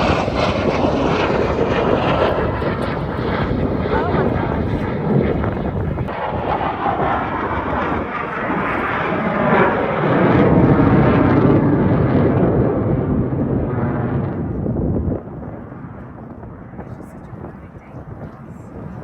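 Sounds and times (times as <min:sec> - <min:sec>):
airplane flying past overhead: 0:00.0 - 0:19.0.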